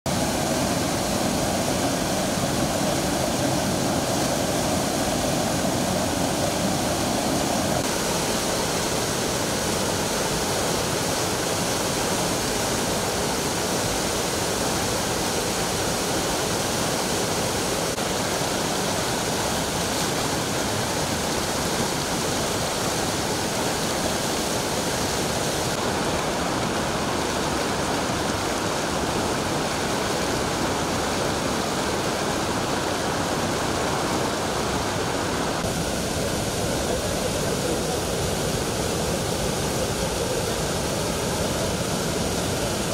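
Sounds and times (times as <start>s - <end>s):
river rushing over rocks: 0.1s - 42.9s.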